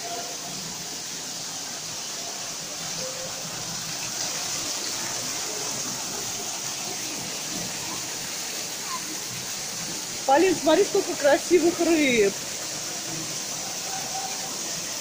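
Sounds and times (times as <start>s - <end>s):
waterfall pouring into pond: 0.0s - 15.0s.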